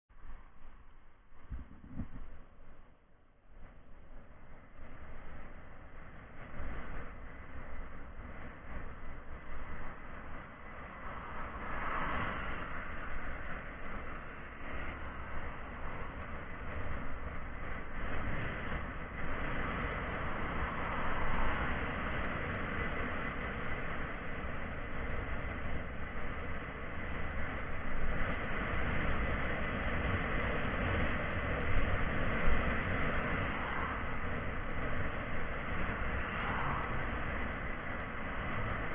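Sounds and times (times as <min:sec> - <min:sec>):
faint high whine: 0:00.1 - 0:38.9
steady rushing rumbling noise: 0:00.1 - 0:38.9.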